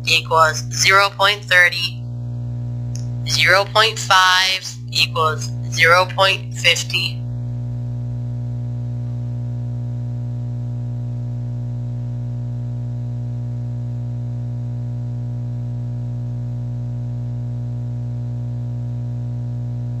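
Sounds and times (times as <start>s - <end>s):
low electronic hum: 0.0s - 20.0s.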